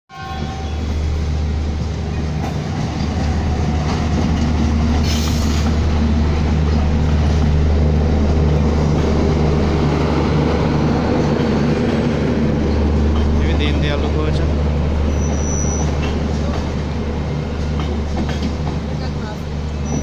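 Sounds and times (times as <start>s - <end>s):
diesel locomotive engine drone: 0.1s - 20.0s
train coaches rolling past: 0.1s - 20.0s.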